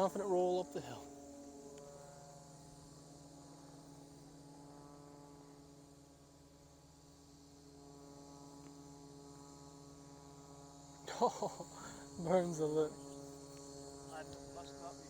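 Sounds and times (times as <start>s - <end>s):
faint steady hum: 0.0s - 15.0s
insect chirring: 0.0s - 15.0s.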